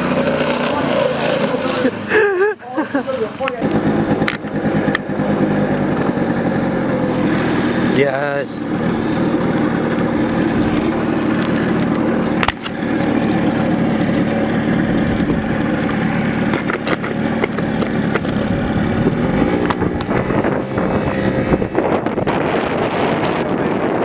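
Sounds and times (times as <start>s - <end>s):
small engine running: 0.0s - 2.2s, 2.8s - 22.2s.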